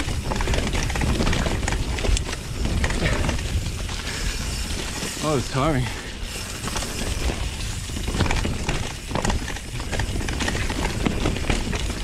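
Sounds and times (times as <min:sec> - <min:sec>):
tyre rumble and rushing air: 0:00.0 - 0:11.5
bike knocks and rattles: 0:00.0 - 0:12.0.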